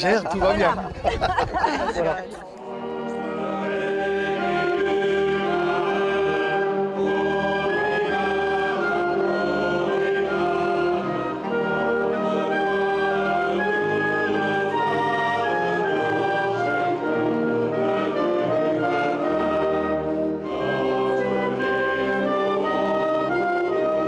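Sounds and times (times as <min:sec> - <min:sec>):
wind band playing slow tune: 0:02.6 - 0:24.0.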